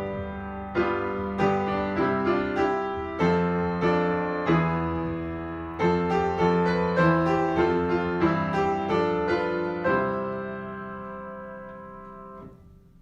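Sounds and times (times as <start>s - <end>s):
piano chords and notes: 0.0s - 13.0s.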